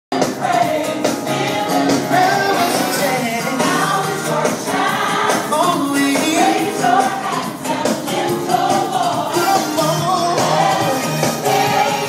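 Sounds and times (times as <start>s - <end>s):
gospel choir singing: 0.1s - 12.0s
instrumental accompaniment: 0.2s - 12.0s.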